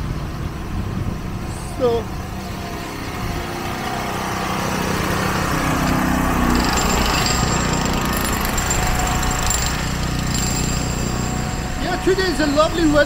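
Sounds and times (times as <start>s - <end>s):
thin high whine: 1.4s - 13.0s
small engine running: 1.8s - 13.0s.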